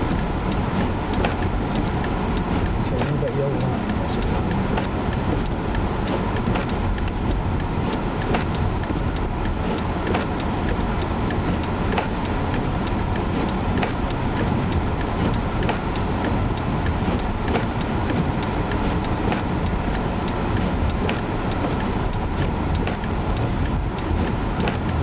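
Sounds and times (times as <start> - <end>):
car road and engine rumble: 0.0 - 25.0
sharp ticks: 0.1 - 25.0.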